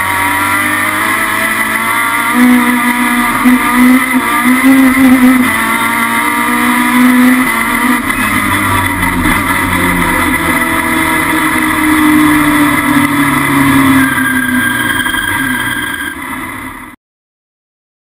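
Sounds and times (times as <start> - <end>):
racing engine at high revs: 0.0 - 17.0.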